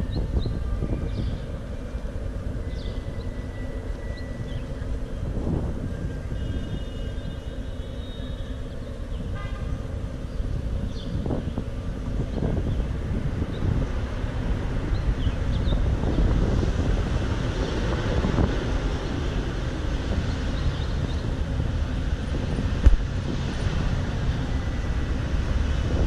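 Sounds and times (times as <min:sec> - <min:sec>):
wind buffeting microphone: 0:00.0 - 0:07.6, 0:08.6 - 0:26.0
low rumble of traffic: 0:00.0 - 0:26.0.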